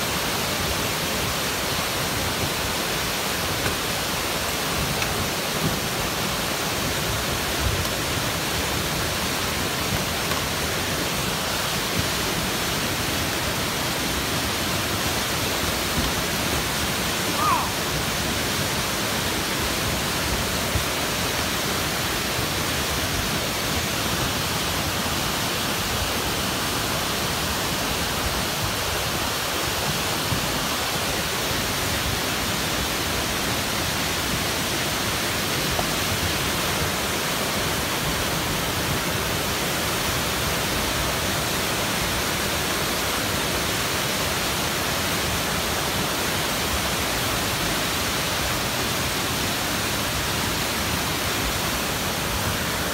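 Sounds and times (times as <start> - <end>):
flood water rushing over rocks: 0.0 - 52.9.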